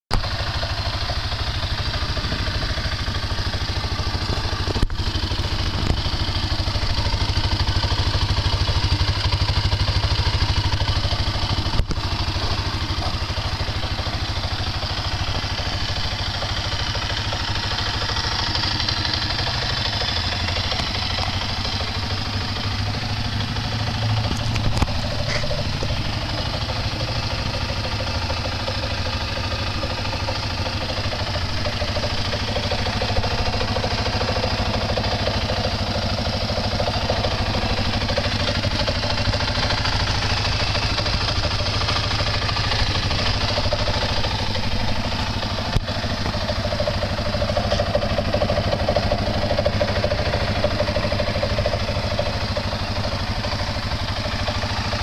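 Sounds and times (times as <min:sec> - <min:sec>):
atv engine idling: 0:00.1 - 0:55.0.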